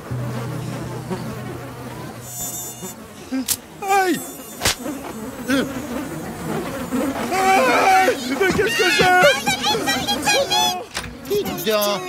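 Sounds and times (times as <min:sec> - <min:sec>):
cartoon mosquito swarm buzzing: 0:00.0 - 0:12.0
high whine of a mosquito: 0:00.0 - 0:12.0.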